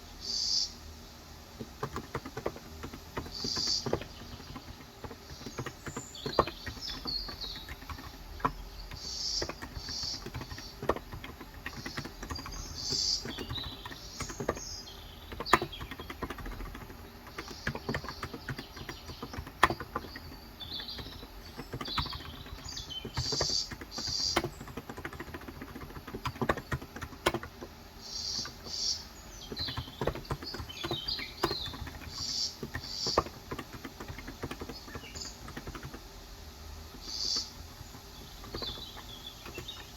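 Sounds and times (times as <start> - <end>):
birds chirping: 0.0 - 39.9
keyboard typing: 1.5 - 39.9.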